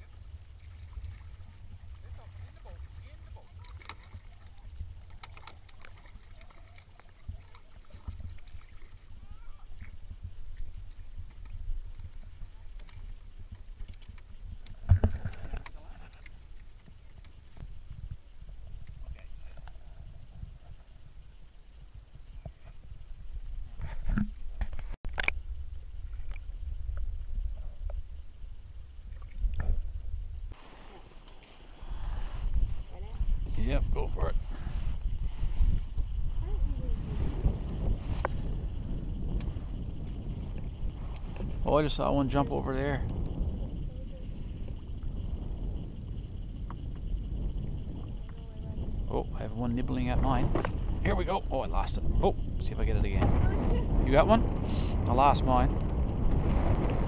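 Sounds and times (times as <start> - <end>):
wind on microphone: 0.0 - 30.6, 31.7 - 57.0
underwater low rumble: 0.0 - 57.0.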